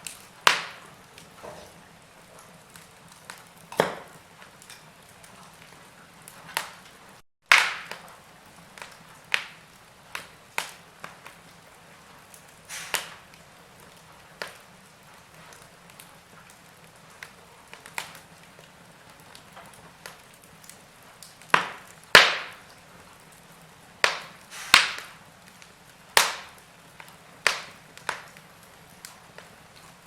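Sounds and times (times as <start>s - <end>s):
faint steady hiss: 0.0s - 30.0s
wood fire crackling: 0.0s - 30.0s.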